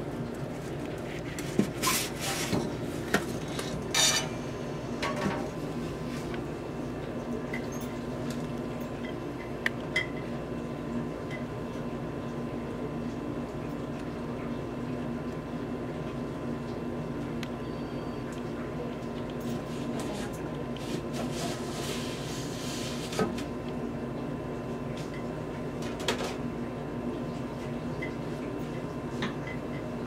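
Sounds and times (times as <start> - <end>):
low hum with high tone: 0.0 - 30.0.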